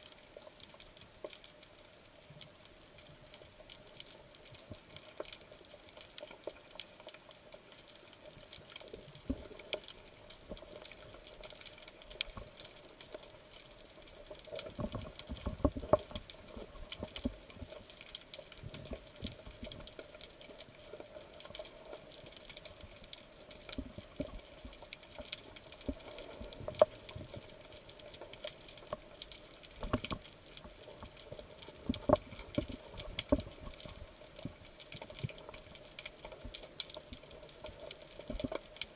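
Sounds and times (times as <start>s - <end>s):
underwater crackle of clicks: 0.0s - 38.9s.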